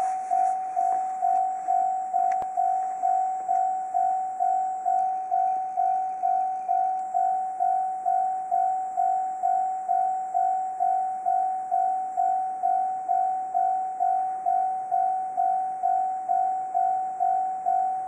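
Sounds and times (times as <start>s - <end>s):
level-crossing warning bell ringing: 0.0s - 18.0s.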